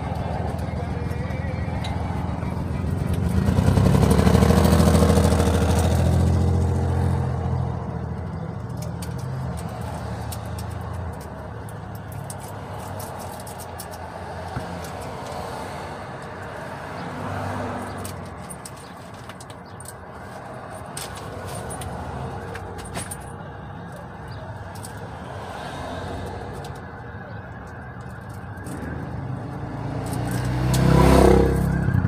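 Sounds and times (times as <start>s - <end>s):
traffic hum: 0.0s - 32.0s.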